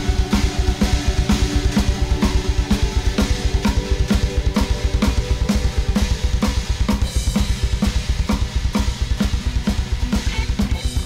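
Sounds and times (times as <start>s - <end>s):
bass drum beats: 0.0s - 11.0s.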